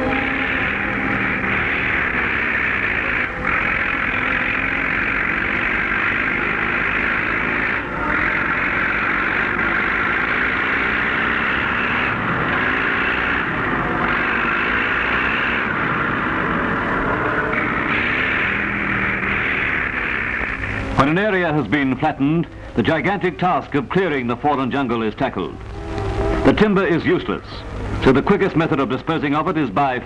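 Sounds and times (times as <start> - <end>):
bulldozer engine rushing: 0.0 - 30.0.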